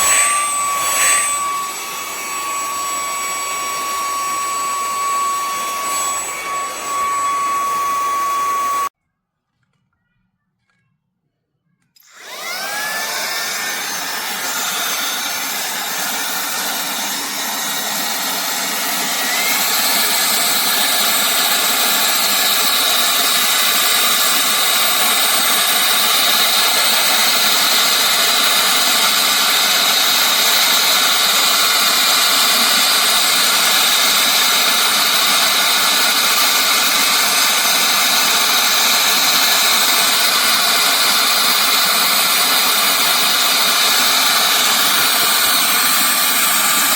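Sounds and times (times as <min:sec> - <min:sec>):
handheld vacuum motor whining: 0:00.0 - 0:08.9, 0:12.0 - 0:46.9.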